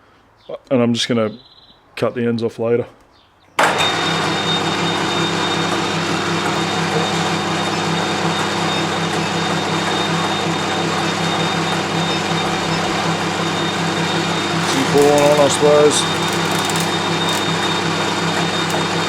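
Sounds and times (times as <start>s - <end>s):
metal lathe humming with high whine: 3.6s - 19.0s.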